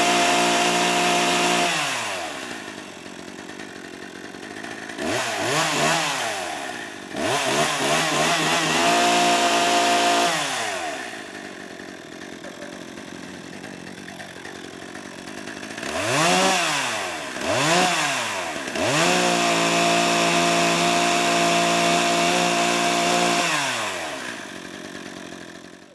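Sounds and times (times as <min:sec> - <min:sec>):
chainsaw engine revving: 0:00.0 - 0:25.9.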